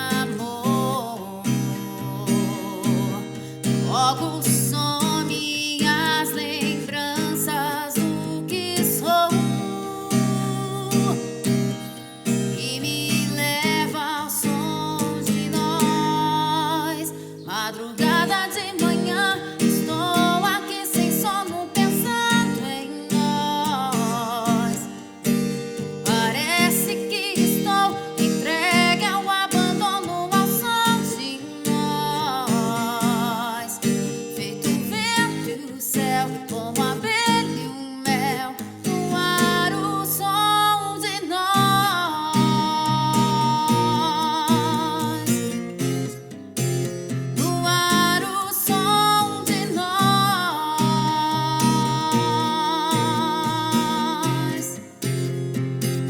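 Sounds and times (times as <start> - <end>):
woman singing with vibrato: 0.0 - 46.0, 47.3 - 55.2
acoustic guitar strumming: 0.0 - 56.0.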